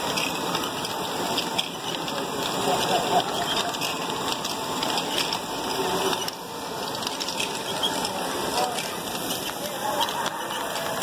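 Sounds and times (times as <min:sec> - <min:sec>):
plastic balls clicking and rattling: 0:00.0 - 0:11.0
whirr of plastic gears and motors: 0:00.0 - 0:11.0.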